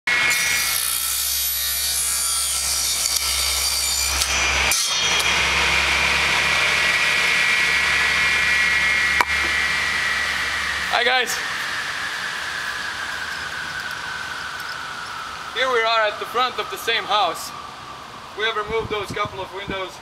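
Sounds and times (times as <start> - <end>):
machine hissing and whining: 0.1 - 20.0.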